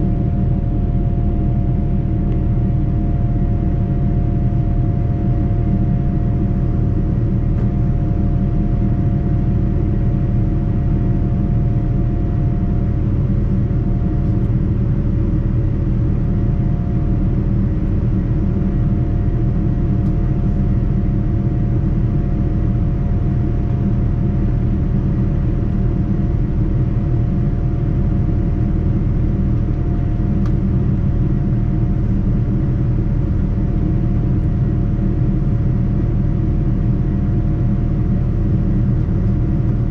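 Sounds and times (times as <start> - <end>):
airliner cabin rumble: 0.0 - 39.9
faint steady hums: 0.0 - 39.9.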